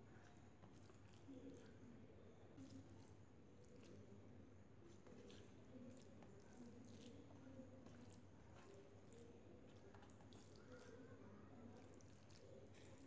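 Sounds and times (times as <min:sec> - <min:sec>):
fingers squishing wet food: 0:00.0 - 0:13.0.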